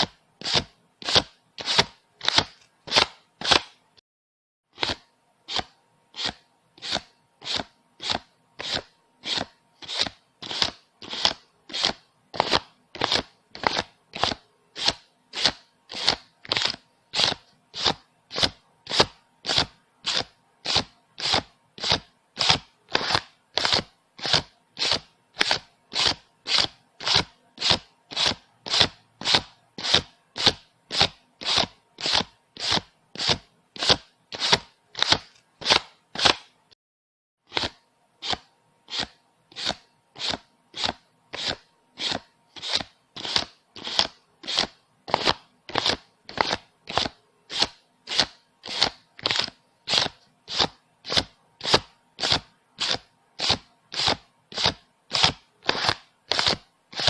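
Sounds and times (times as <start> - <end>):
paper bills snapping while counted: 0.0 - 3.8, 4.8 - 36.6, 37.5 - 57.0.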